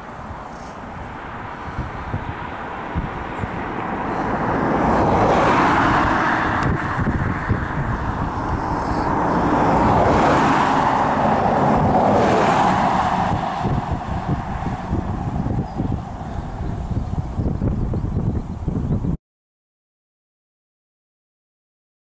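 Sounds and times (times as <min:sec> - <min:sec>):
cars passing on a road: 0:00.0 - 0:19.1
freight train rumbling: 0:00.9 - 0:18.7.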